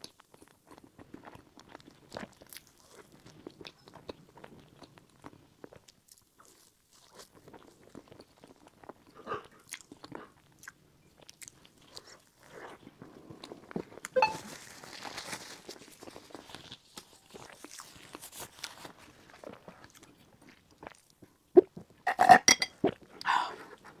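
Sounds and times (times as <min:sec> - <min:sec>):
chewing with moist mouth sounds: 0:00.0 - 0:24.0.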